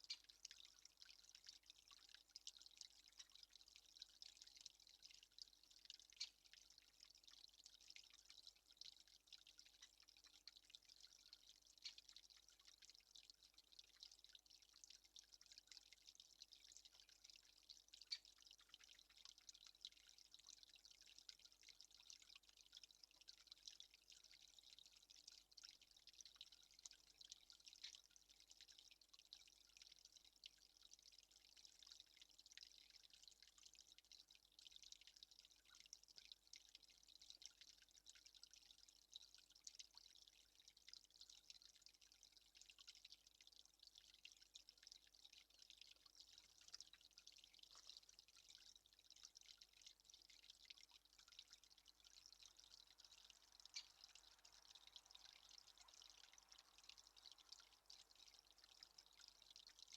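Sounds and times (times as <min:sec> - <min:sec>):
fine water drips: 0:00.0 - 0:59.9
water trickling: 0:00.0 - 0:59.9.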